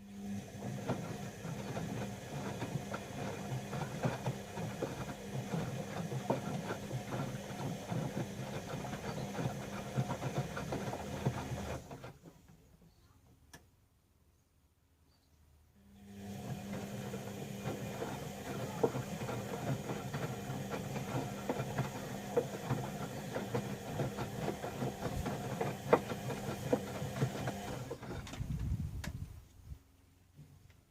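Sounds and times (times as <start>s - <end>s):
washing machine motor hum: 0.0s - 12.7s, 15.8s - 29.5s
wet laundry tumbling: 0.4s - 12.5s, 16.2s - 28.9s.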